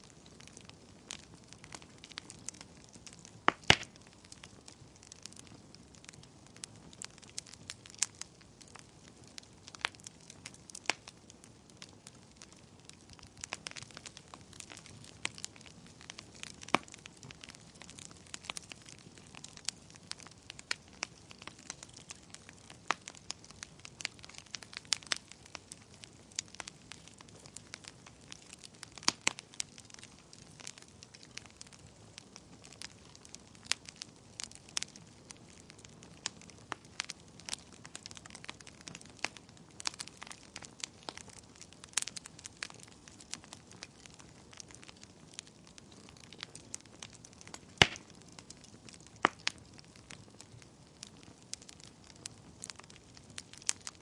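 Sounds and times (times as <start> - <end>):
low steady hiss: 0.0 - 54.0
wood fire crackling and popping: 0.0 - 54.0.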